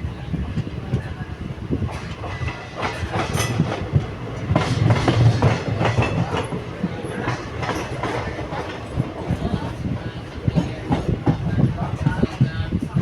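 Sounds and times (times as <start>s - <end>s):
train rumbling on track: 0.0s - 13.0s
wheels clacking on rails: 0.1s - 13.0s.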